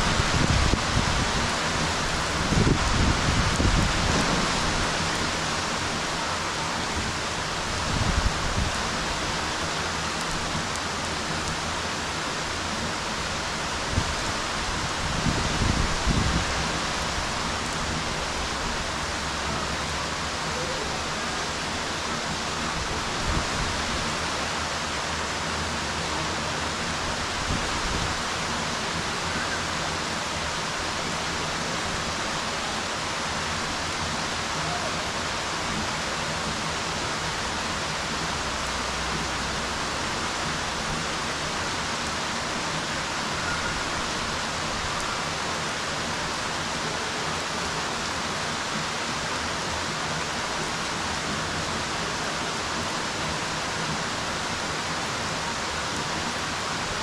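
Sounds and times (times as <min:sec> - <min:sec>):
rain falling on pool water: 0:00.0 - 0:57.0.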